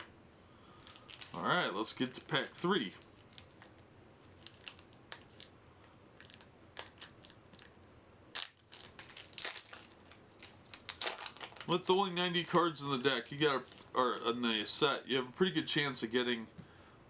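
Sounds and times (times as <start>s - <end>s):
wrapper crinkling and rustling: 0.8s - 14.8s.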